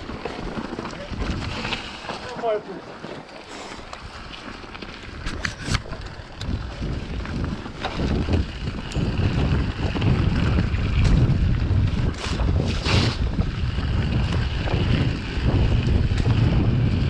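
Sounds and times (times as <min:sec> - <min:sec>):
wind noise on microphone: 0:00.0 - 0:02.1, 0:03.9 - 0:17.0
bike rattling and knocking: 0:00.0 - 0:17.0
bike tyres rolling over dirt and stones: 0:00.0 - 0:17.0.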